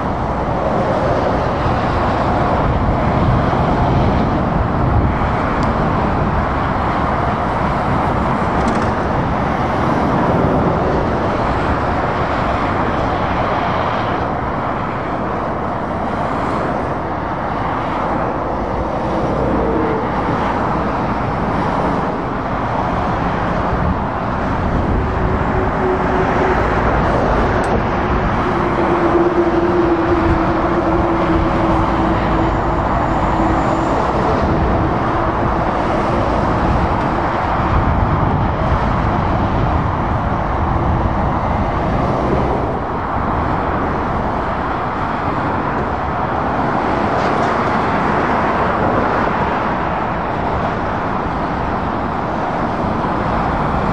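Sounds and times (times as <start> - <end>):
low vehicle drone: 0.0 - 53.9
motorway traffic passing: 0.0 - 53.9.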